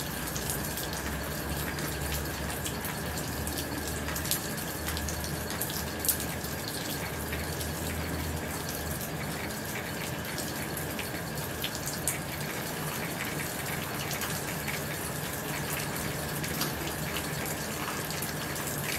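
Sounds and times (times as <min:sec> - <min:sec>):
rain on a tin roof: 0:00.0 - 0:18.9.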